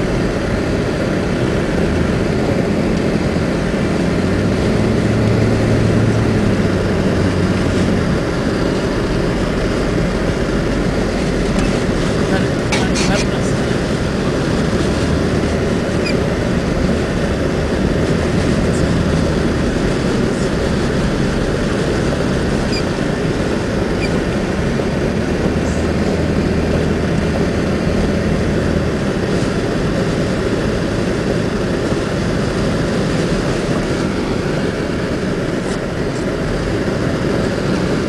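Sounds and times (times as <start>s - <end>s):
tyre and road noise: 0.0s - 38.0s
van engine drone: 0.0s - 38.0s.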